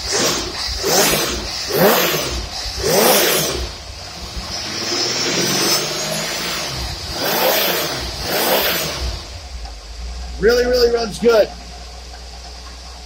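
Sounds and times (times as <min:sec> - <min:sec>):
engine revving: 0:00.0 - 0:11.6
engine running steadily: 0:00.0 - 0:13.0.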